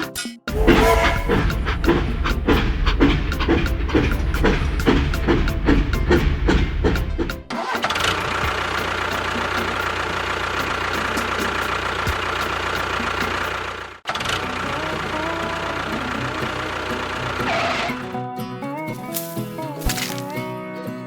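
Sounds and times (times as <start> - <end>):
engine running steadily: 0.5 - 17.6.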